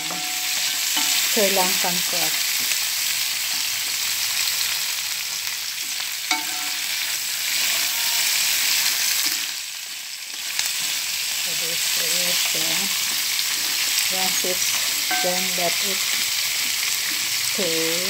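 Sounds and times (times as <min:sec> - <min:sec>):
crab sizzling in a pot: 0:00.0 - 0:18.0.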